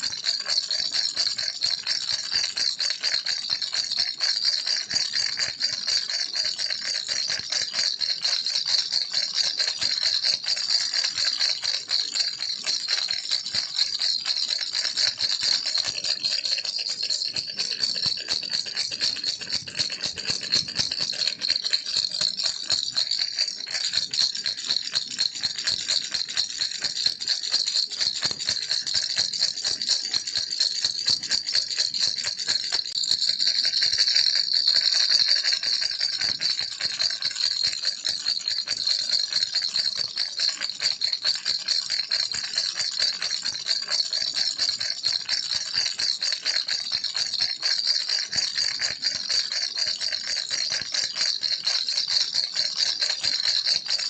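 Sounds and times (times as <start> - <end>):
baby rattle shaking: 0.0 - 1.5, 2.2 - 46.5, 47.3 - 51.5, 52.4 - 54.0.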